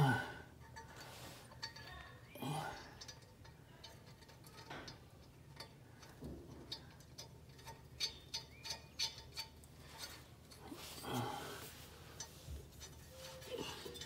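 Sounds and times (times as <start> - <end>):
small metal clicks and ticks: 0.6 - 14.0.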